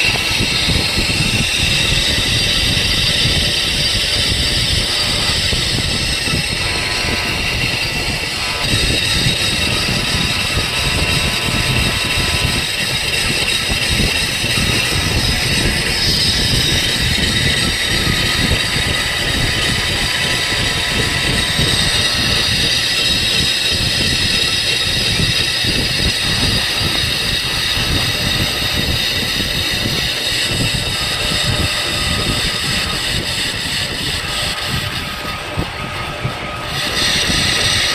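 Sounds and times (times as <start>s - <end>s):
high-pitched whining tones: 0.0s - 37.9s
machinery rumbling: 0.0s - 37.9s.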